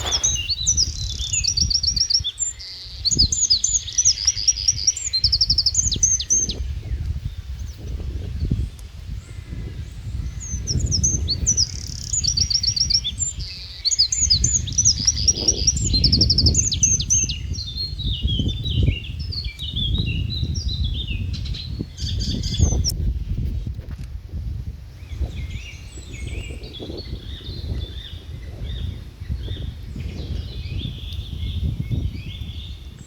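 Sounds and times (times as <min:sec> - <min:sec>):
songbirds chirping and trilling: 0:00.0 - 0:23.4, 0:24.9 - 0:33.0.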